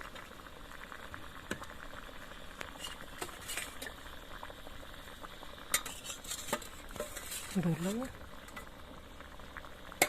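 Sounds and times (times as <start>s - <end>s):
curry bubbling and popping in a pan: 0.0s - 10.0s.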